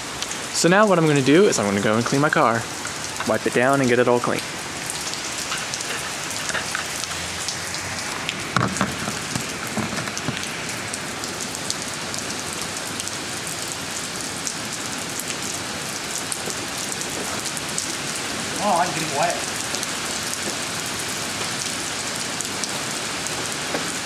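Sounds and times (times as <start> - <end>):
rain on concrete and puddles: 0.0 - 24.0.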